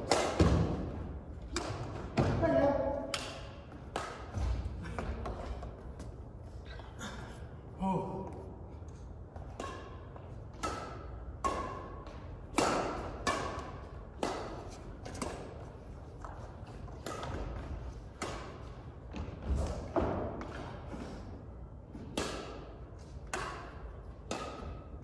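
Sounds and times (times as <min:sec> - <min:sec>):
rackets hitting shuttlecock: 0:00.0 - 0:06.2, 0:09.1 - 0:21.1, 0:21.8 - 0:25.0.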